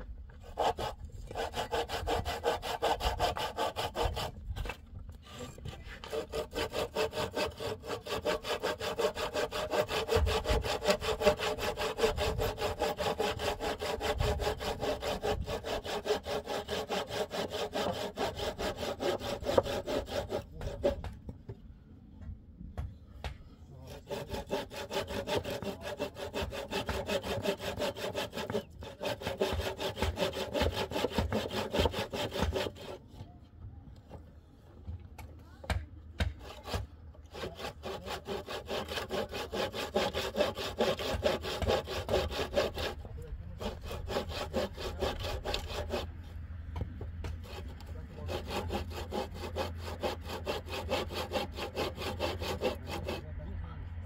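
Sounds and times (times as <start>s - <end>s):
hand saw cutting wood: 0.0s - 21.2s, 23.2s - 33.2s, 35.6s - 46.4s, 47.2s - 53.6s.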